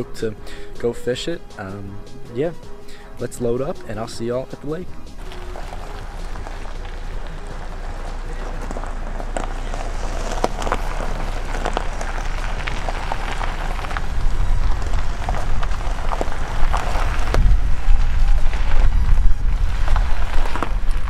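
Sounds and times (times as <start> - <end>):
tyres crunching over gravel: 0.0 - 21.0
low rumble: 3.8 - 21.0.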